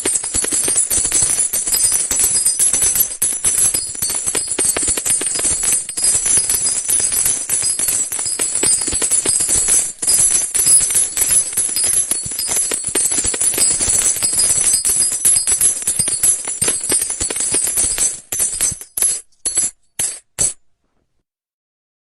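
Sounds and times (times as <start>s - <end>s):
coins jingling: 0.0s - 20.6s.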